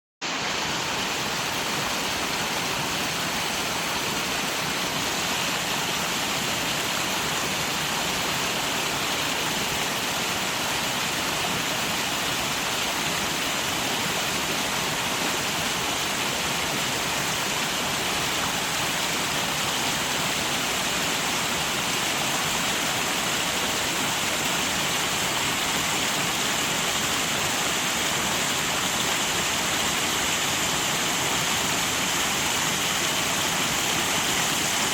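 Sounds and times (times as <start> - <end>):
flowing water rushing: 0.2 - 34.9.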